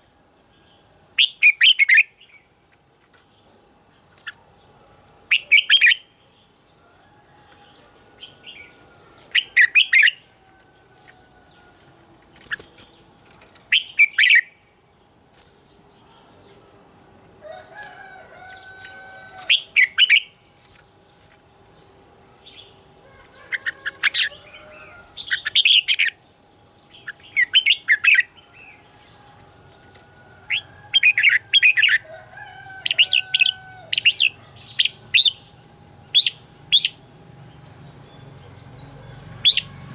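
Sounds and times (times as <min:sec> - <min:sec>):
bird singing bright phrases: 0:00.0 - 0:10.4, 0:11.5 - 0:16.7, 0:17.5 - 0:39.9.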